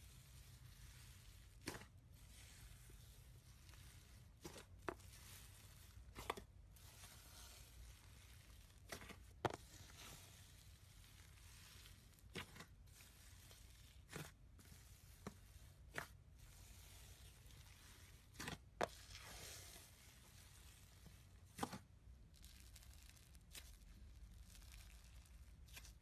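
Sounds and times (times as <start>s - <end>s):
hand squishing slime: 0.0s - 26.0s.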